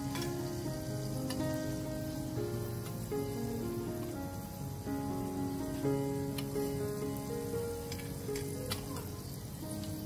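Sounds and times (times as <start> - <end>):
instrumental background music: 0.0 - 10.0
potato sticks frying in oil: 0.0 - 10.0.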